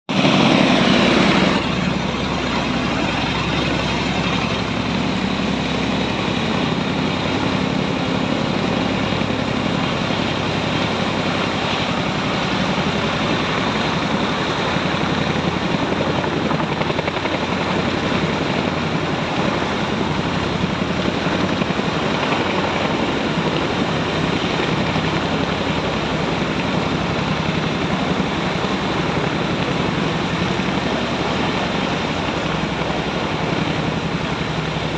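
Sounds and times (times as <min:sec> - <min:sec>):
helicopter rotor and turbine engine: 0:00.0 - 0:34.9.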